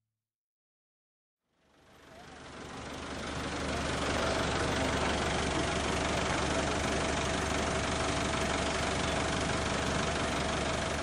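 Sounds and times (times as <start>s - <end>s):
vehicle engine running: 1.5s - 11.0s.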